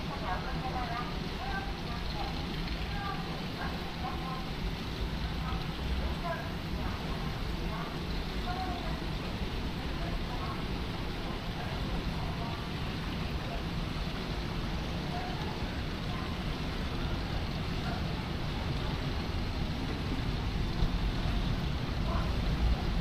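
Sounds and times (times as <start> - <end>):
distant voices: 0.0 - 23.0
low city rumble: 0.0 - 23.0.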